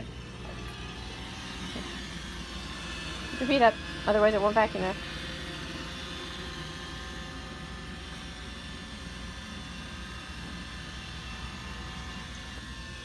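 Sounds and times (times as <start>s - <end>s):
robot vacuum running: 0.0s - 13.0s.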